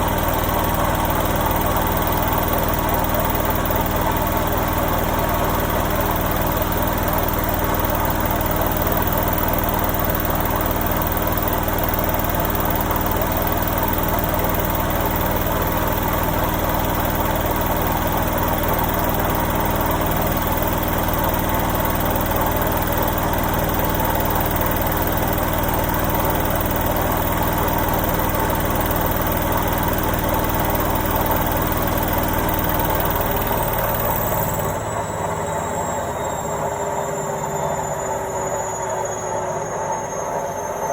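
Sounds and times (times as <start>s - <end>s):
washing machine drone: 0.0s - 40.9s.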